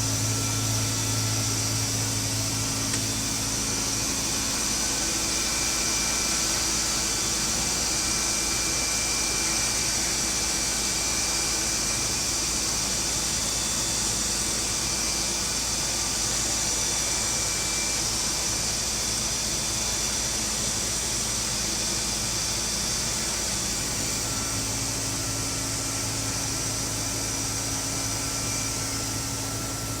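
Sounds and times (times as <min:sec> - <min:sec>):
wood router running: 0:00.0 - 0:30.0.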